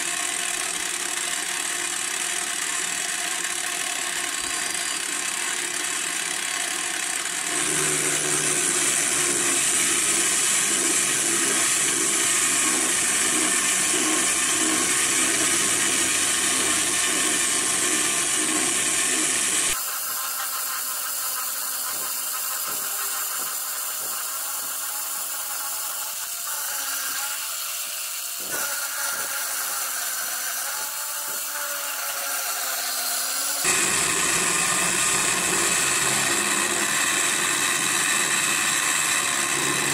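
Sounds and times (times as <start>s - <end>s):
end mill cutting metal: 0.0s - 39.9s.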